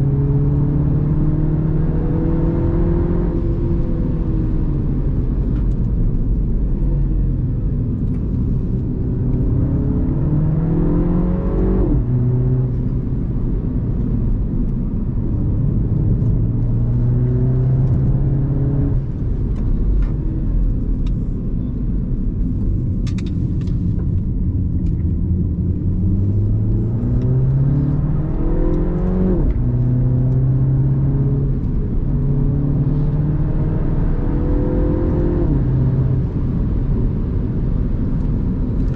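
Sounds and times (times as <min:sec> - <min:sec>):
car engine accelerating: 0:00.0 - 0:38.9
road and tyre rumble: 0:00.0 - 0:38.9.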